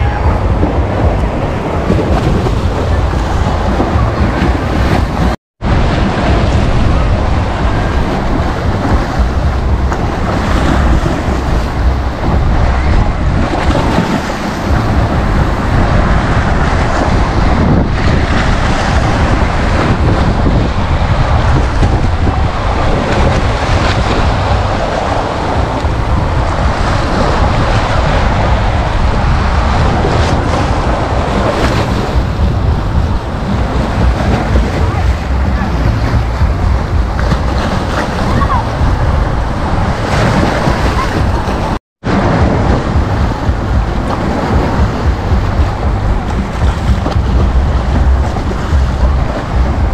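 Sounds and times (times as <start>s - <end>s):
sea waves breaking: 0.0s - 49.9s
wind buffeting microphone: 0.0s - 49.9s.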